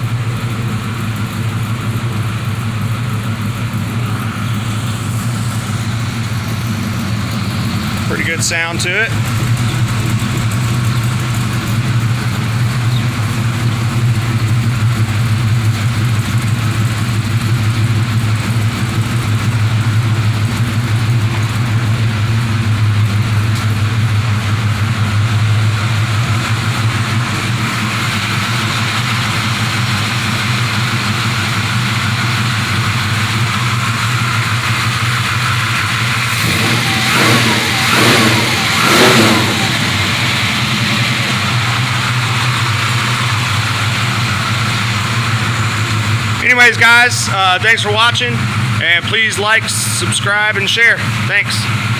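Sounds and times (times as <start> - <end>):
car engine idling and revving: 0.0 - 51.9.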